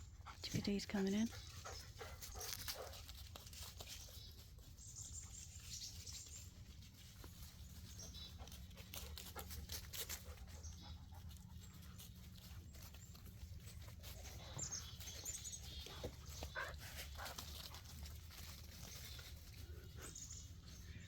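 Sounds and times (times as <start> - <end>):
small birds calling: 0.0 - 21.0
rustling in dead leaves: 1.5 - 21.0
light clicks in leaves: 2.2 - 20.0.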